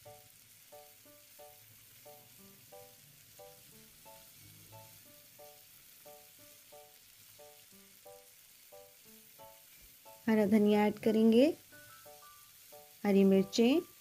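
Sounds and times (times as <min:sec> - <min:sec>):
food sizzling in oil: 0:00.0 - 0:14.0
quiet background music: 0:00.0 - 0:14.0.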